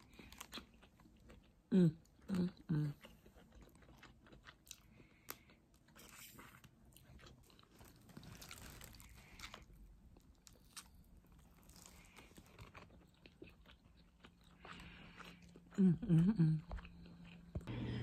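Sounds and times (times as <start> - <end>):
person chewing breadstick: 0.0 - 17.8.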